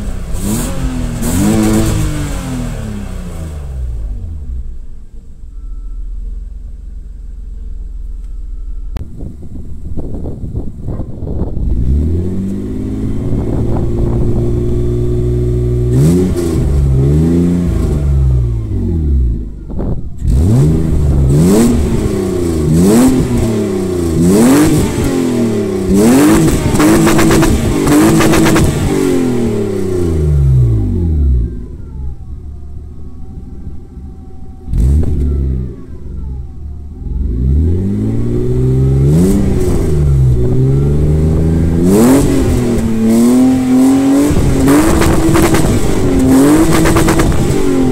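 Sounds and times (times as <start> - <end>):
car engine revving: 0.0 - 5.2, 8.9 - 47.9.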